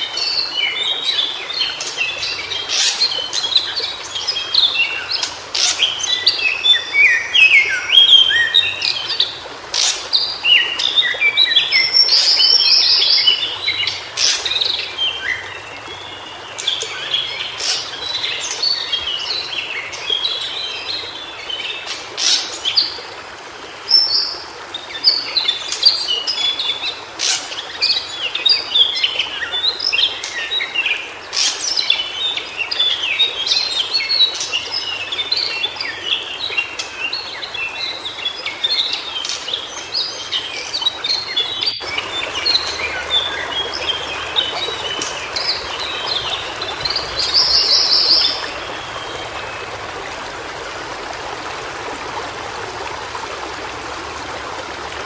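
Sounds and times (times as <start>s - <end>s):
bird twittering song: 0.0s - 23.0s, 23.9s - 49.8s
stream running: 0.0s - 55.0s.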